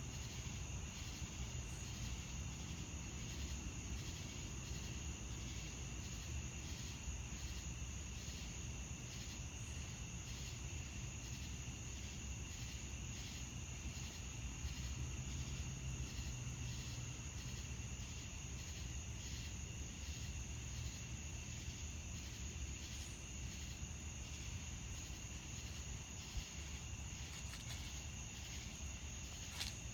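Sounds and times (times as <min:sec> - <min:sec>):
crickets pulsing: 0:00.0 - 0:29.9.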